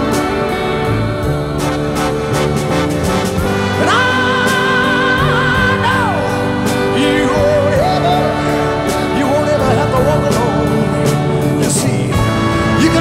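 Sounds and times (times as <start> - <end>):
background music instruments: 0.0 - 13.0
person singing: 0.0 - 13.0.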